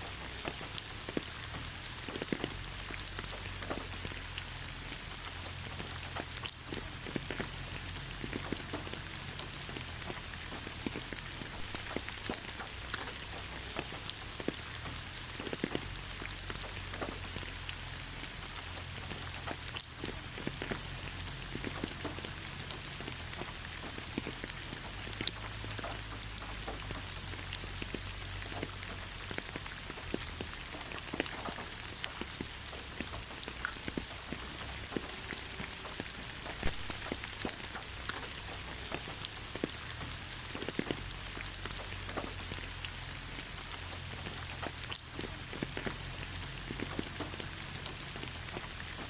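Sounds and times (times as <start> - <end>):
steady rainfall: 0.0 - 49.0.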